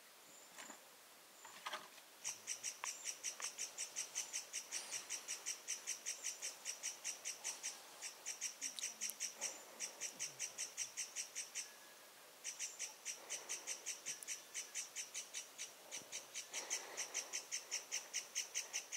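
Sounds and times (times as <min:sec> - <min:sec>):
animal chirping: 0:02.2 - 0:11.7, 0:12.4 - 0:18.9.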